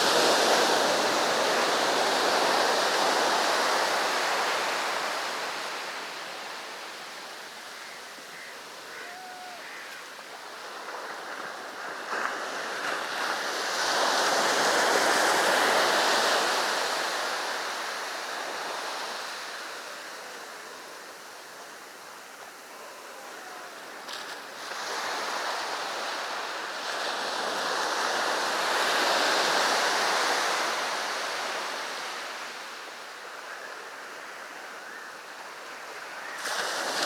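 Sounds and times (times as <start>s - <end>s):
waves breaking on beach: 0.0s - 37.0s.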